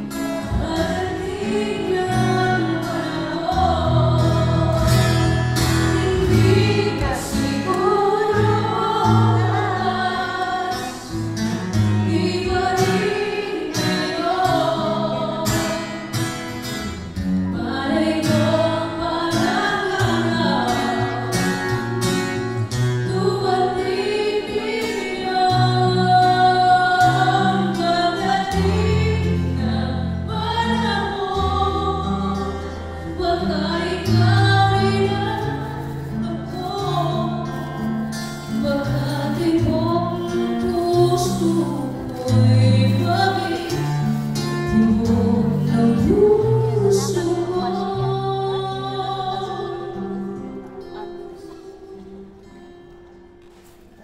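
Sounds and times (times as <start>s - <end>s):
amplified acoustic guitar: 0.0s - 54.0s
person singing: 0.4s - 16.6s, 17.5s - 22.3s, 23.0s - 52.8s.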